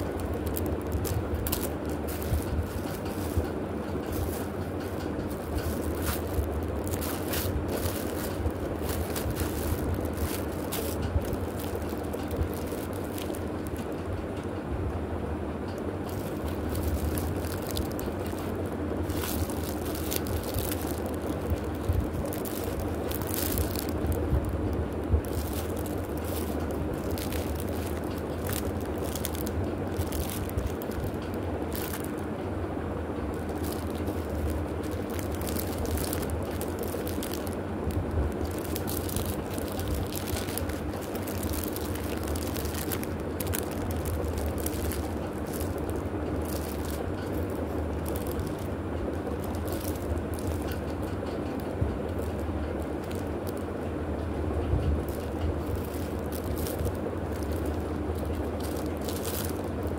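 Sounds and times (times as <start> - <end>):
plastic and paper crinkling: 0.0 - 14.6, 15.7 - 32.5, 33.1 - 59.9
steady low hum: 0.0 - 59.9.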